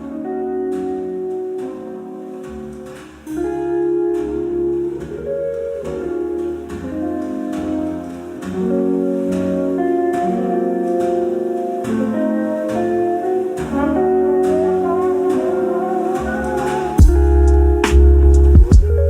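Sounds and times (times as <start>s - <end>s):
mellow jazzy instrumental music: 0.0s - 19.0s.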